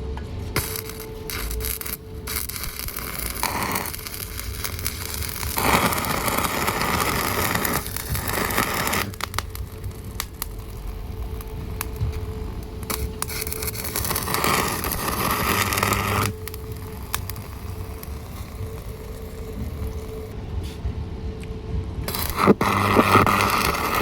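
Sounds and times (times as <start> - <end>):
welding arc crackling: 0.0 - 20.4, 22.0 - 24.0
welding hissing bursts: 0.5 - 20.3, 22.1 - 24.0.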